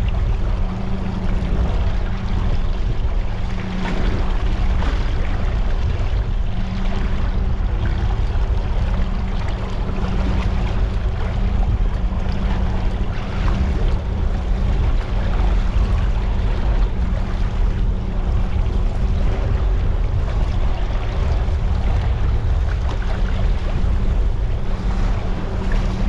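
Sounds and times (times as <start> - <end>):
boat engine running: 0.0 - 26.0
water noise: 0.0 - 26.0
wind: 0.0 - 26.0.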